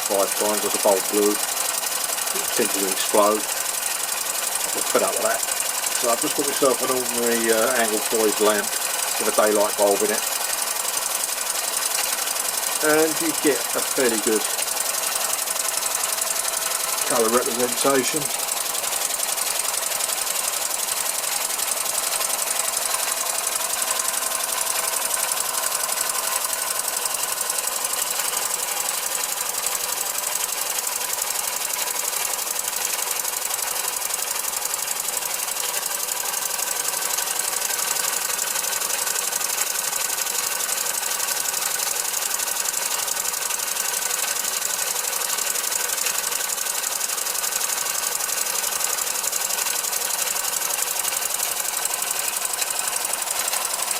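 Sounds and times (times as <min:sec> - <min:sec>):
model engine clattering: 0:00.0 - 0:53.9.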